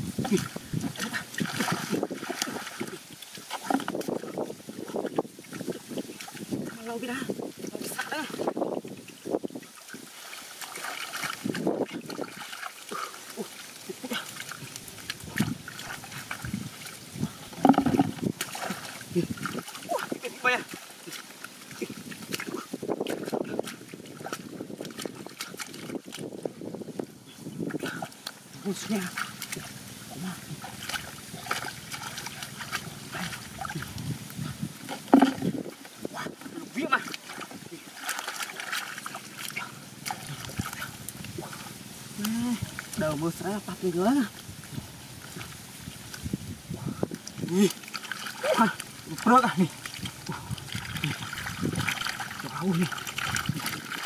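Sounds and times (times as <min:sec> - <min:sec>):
wet mud squelches and splashes: 0:00.0 - 0:54.0.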